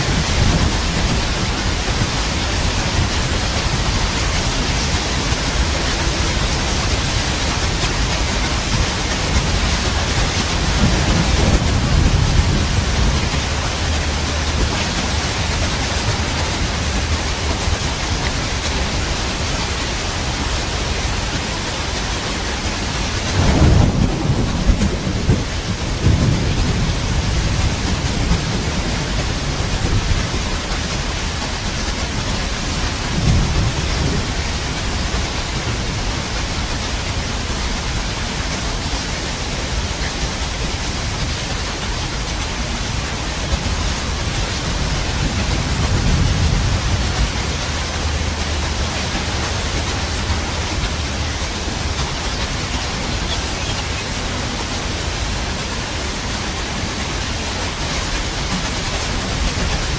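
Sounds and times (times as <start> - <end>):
rolling thunder: 0.0 - 19.5, 20.2 - 38.7, 42.9 - 59.9
heavy rain: 0.0 - 59.9.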